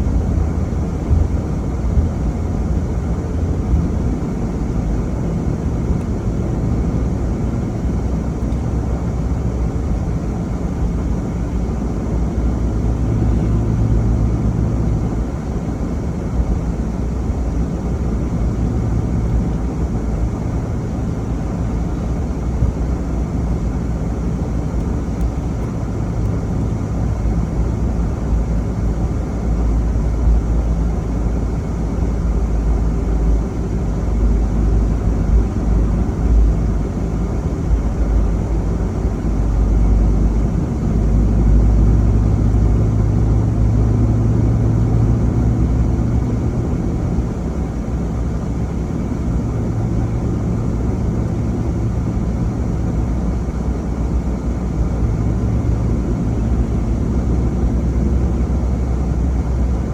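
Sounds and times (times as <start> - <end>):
road rumble: 0.0 - 59.9
vehicle engine hum: 0.0 - 59.9.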